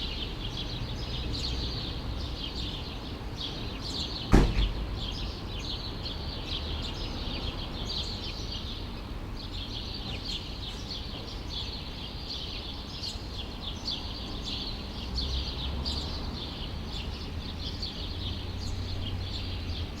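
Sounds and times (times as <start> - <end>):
low city rumble: 0.0 - 20.0
small birds chirping: 0.0 - 20.0.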